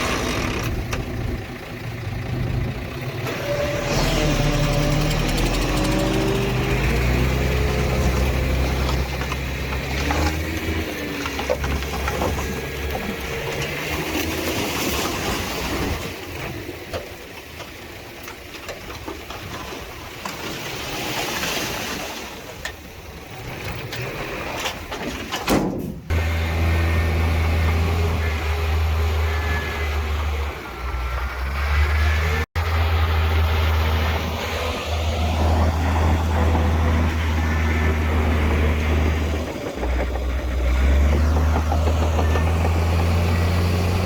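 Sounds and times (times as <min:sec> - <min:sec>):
heavy machinery diesel engines: 0:00.0 - 0:44.0.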